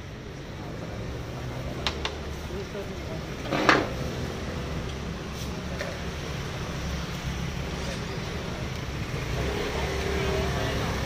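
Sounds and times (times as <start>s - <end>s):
street traffic: 0.0s - 11.0s
motor scooters passing: 0.2s - 11.0s.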